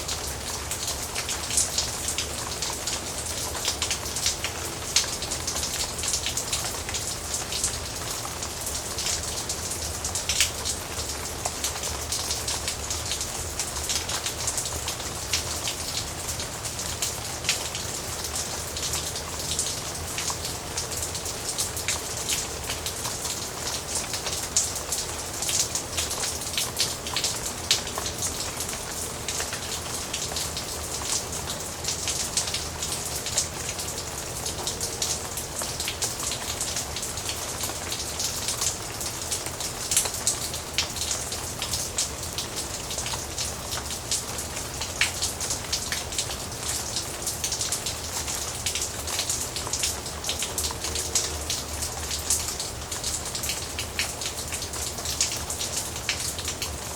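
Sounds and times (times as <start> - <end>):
rain pattering on hard surface: 0.0 - 56.9.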